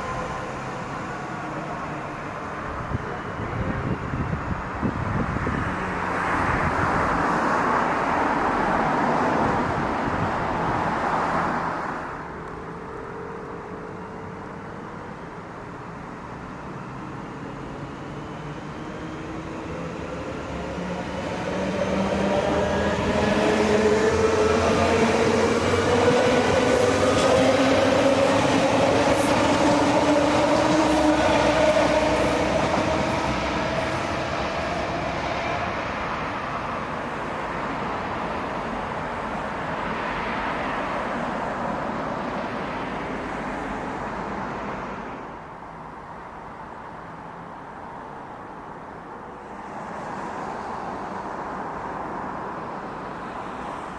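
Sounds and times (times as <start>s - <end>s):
wheels rumbling on rail: 0.0s - 45.4s.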